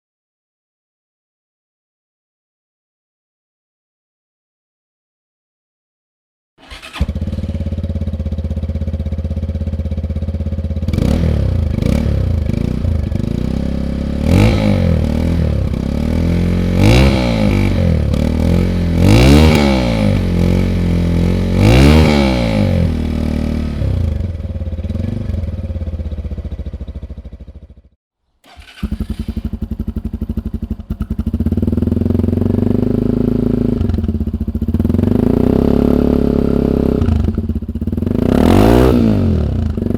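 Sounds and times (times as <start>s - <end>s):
motorcycle engine revving and idling: 6.6s - 39.9s.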